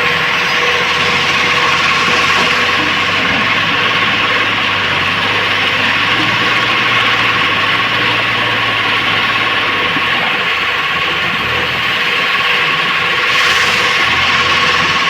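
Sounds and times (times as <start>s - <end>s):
diesel engine running: 0.0s - 15.0s
machine hum and whine: 0.0s - 15.0s.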